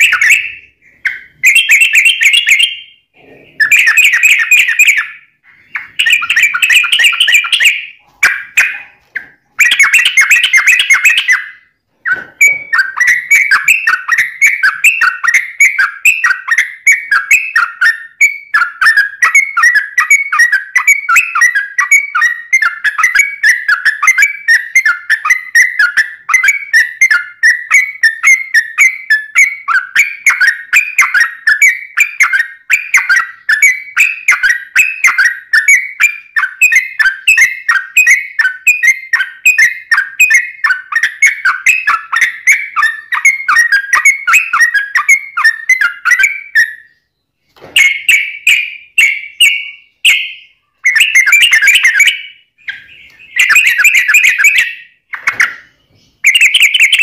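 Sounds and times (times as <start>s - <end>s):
bird singing bubbling phrases: 0.0s - 57.0s.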